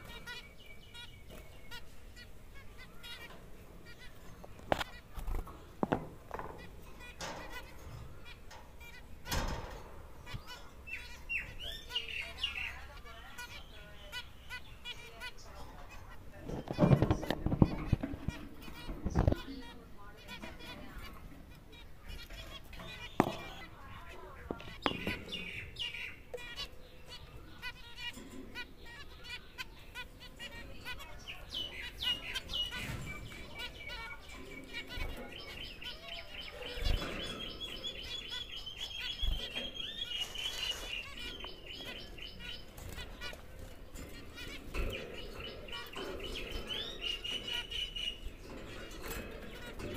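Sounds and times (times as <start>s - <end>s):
birds thumping in cage: 0.0s - 49.9s
warbled birdsong: 0.0s - 49.9s
finches calling: 6.6s - 49.9s.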